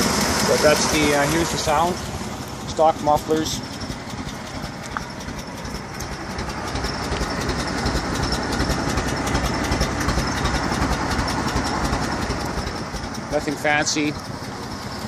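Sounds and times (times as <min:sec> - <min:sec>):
truck engine exhaust: 0:00.0 - 0:15.0.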